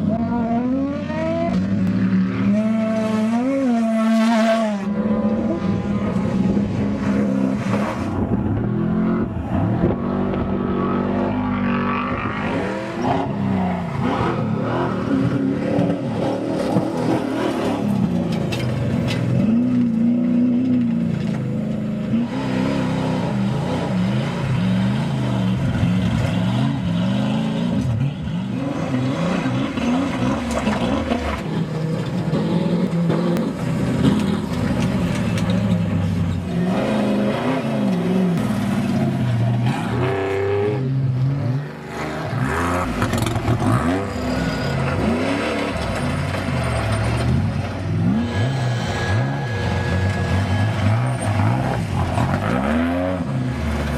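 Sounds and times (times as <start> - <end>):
truck engines revving: 0.0 - 53.9
tyre and dirt noise: 0.0 - 53.9.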